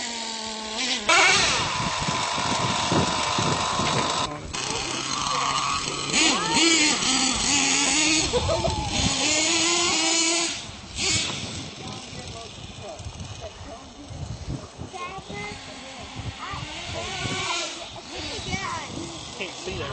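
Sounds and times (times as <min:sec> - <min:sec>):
toy truck engines revving: 0:00.0 - 0:19.9.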